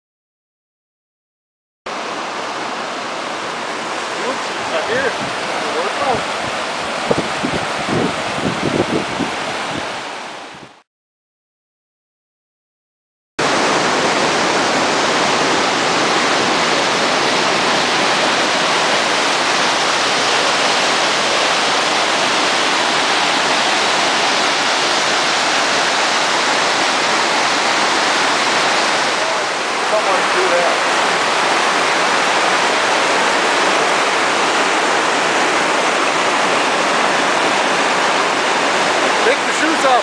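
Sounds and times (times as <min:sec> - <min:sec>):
stream rushing over rocks: 0:01.9 - 0:10.8, 0:13.4 - 0:40.0.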